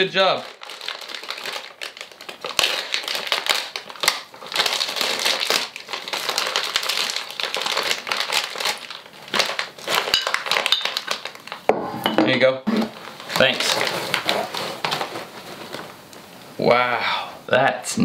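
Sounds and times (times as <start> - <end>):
plastic bag crinkling: 0.0 - 11.7, 12.8 - 16.3.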